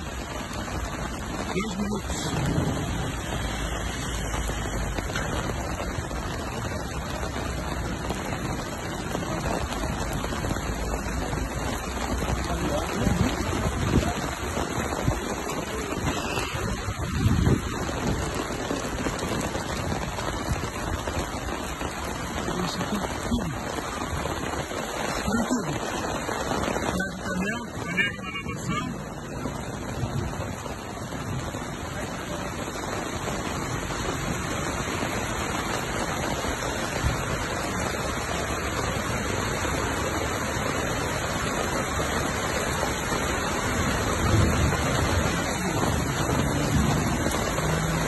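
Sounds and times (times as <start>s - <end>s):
wind rumble on microphone: 0.0s - 25.2s, 28.8s - 48.0s
steady rain: 0.0s - 48.0s.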